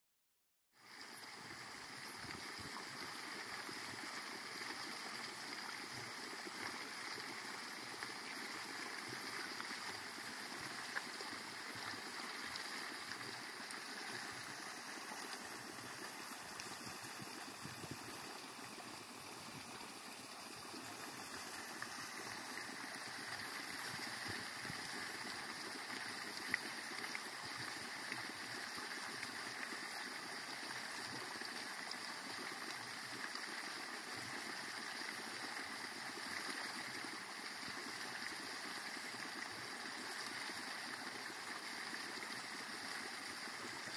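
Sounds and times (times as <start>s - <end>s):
hot water bubbling and flowing: 0.8s - 43.9s.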